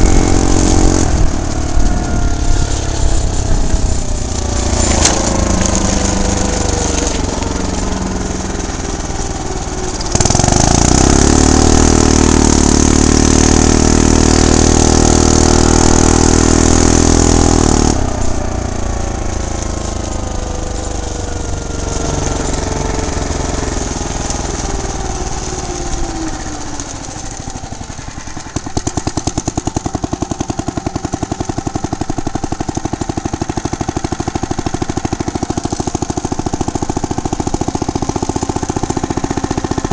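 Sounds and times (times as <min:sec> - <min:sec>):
small petrol engine revving: 0:00.0 - 0:39.9.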